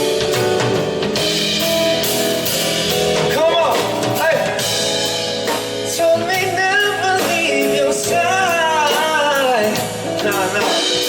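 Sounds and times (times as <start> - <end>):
pop band with drums: 0.0 - 11.0.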